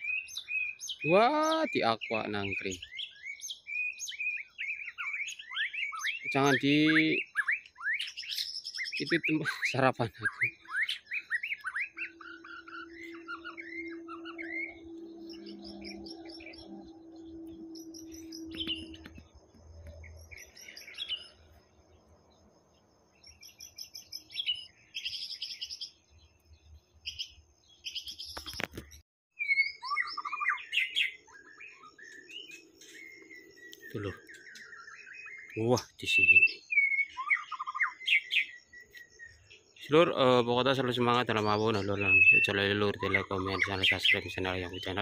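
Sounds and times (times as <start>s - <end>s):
bird singing: 0.0s - 45.0s.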